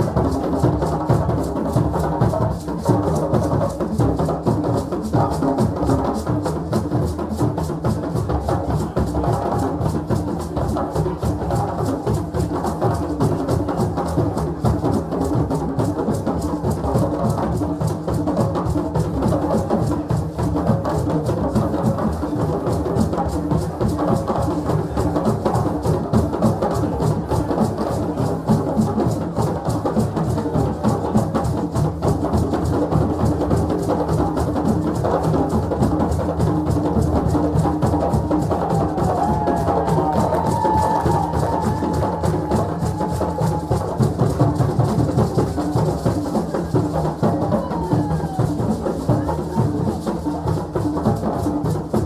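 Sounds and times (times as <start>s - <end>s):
hand drums playing fast rhythms: 0.0s - 52.0s.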